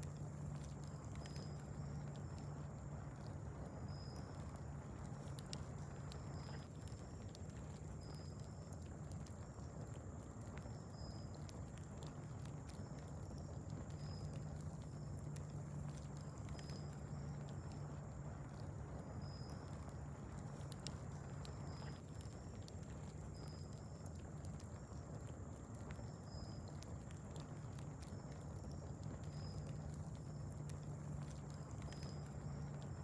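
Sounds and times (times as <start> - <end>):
steady low hum: 0.0 - 33.0
wood fire crackling: 0.0 - 33.0.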